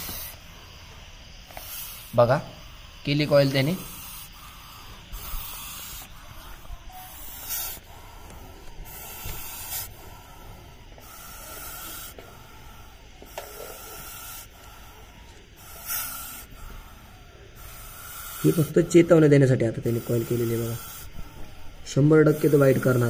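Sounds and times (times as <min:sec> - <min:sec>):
snake hissing: 0:00.0 - 0:23.0.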